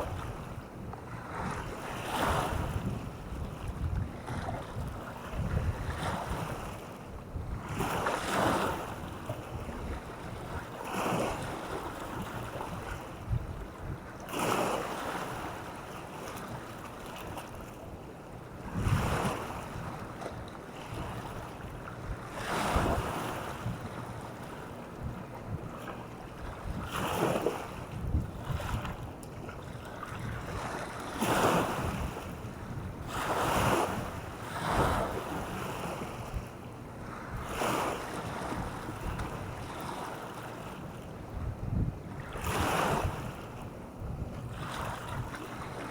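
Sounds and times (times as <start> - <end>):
wind buffeting microphone: 0.0 - 14.1, 18.6 - 20.2, 20.9 - 40.1, 41.2 - 45.9.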